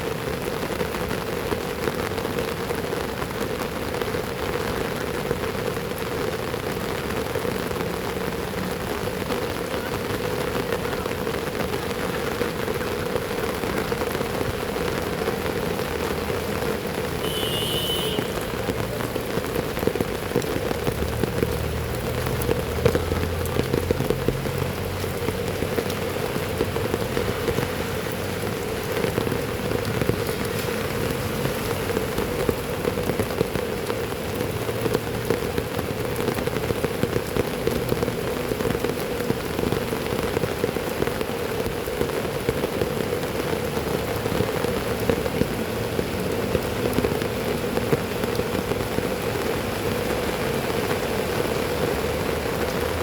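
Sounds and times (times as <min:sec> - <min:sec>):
heavy rain on hard surface: 0:00.0 - 0:53.0.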